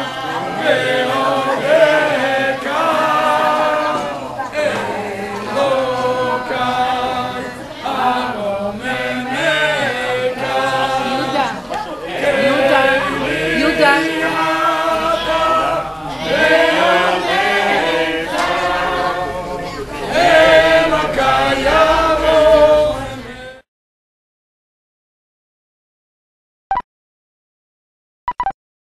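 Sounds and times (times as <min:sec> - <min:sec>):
men singing together unaccompanied: 0:00.0 - 0:23.6.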